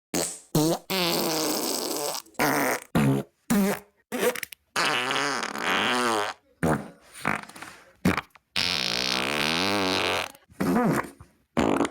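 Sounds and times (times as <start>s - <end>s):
fart sounds: 0.1s - 11.9s.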